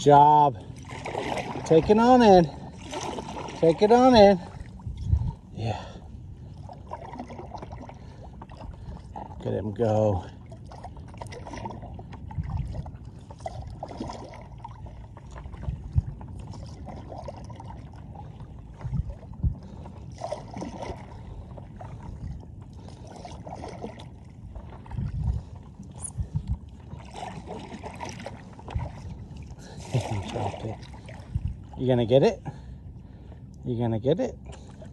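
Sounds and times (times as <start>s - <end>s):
paddle splashing in water: 0.6s - 5.4s, 6.4s - 9.4s, 10.3s - 31.8s.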